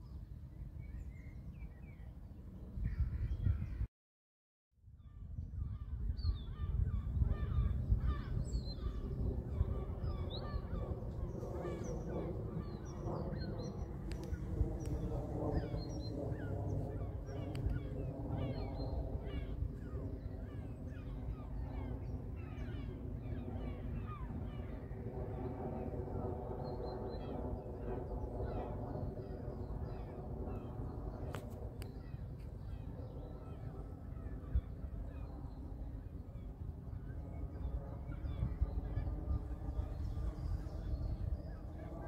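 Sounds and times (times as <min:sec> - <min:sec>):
jet airliner rumble: 0:05.2 - 0:42.0.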